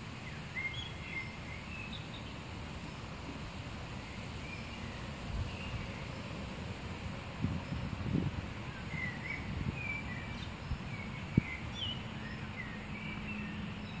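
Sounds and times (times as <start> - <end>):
small birds chirping: 0.0 - 3.1, 3.8 - 6.4, 7.4 - 14.0
outdoor background noise: 0.0 - 14.0.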